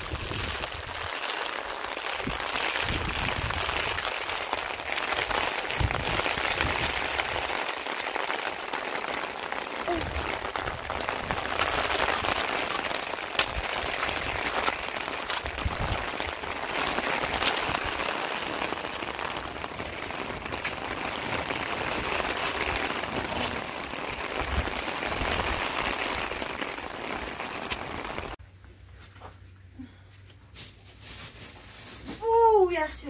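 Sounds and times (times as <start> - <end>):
heavy rain falling: 0.0 - 28.4
raindrops ticking on a surface: 0.0 - 28.4.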